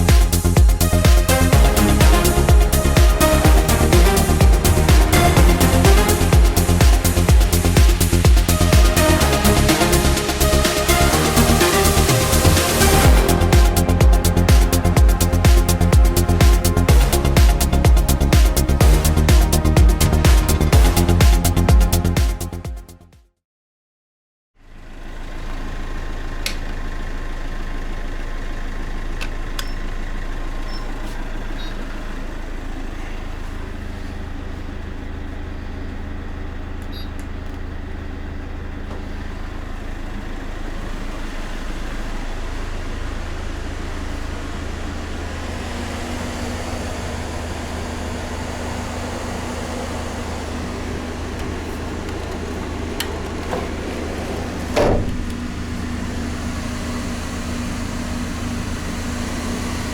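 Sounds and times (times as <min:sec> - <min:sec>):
machine running hum: 0:00.0 - 0:22.2, 0:25.8 - 0:59.9.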